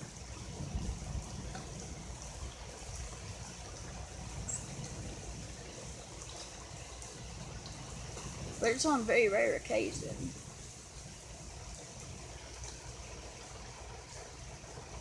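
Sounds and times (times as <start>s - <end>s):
heavy rain heard through window: 0.0s - 15.0s.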